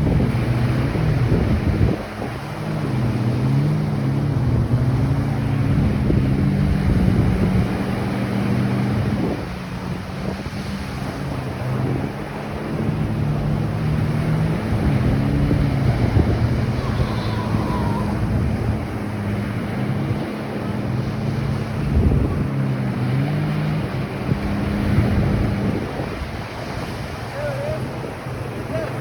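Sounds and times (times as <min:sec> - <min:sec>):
ocean surf washing on beach: 0:00.0 - 0:29.0
wind buffeting microphone: 0:00.0 - 0:29.0.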